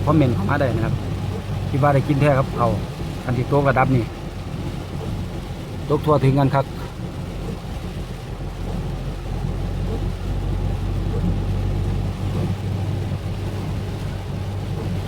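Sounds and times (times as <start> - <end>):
rain noise: 0.0 - 15.0
road noise: 0.0 - 15.0
vehicle engine drone: 0.0 - 15.0.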